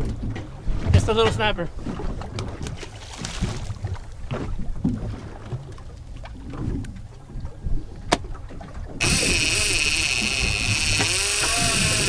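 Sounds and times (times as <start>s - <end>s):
low rumble of wind and water: 0.0s - 12.0s.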